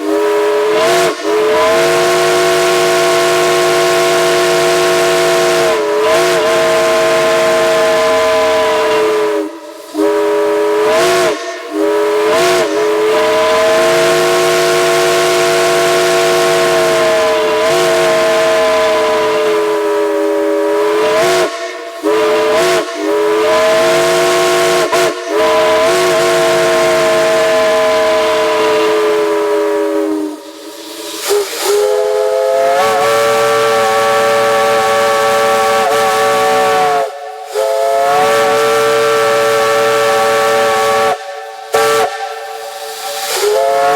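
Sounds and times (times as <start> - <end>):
steam hissing: 0.0 - 43.9
steam locomotive chime whistle: 0.0 - 43.9.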